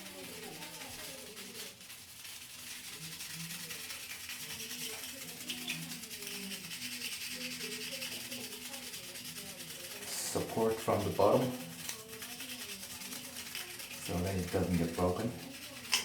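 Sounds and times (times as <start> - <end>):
plastic pieces rubbing and scraping: 0.0 - 16.0.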